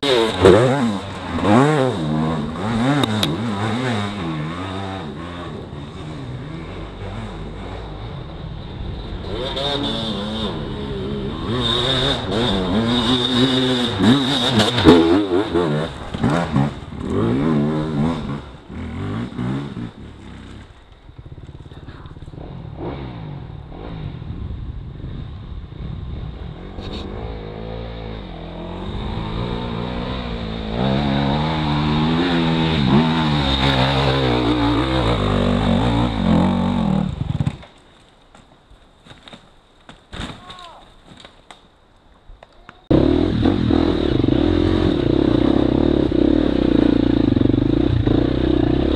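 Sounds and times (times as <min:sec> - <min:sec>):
dirt bike engines revving: 0:00.0 - 0:24.4, 0:25.3 - 0:37.7, 0:42.8 - 0:48.9.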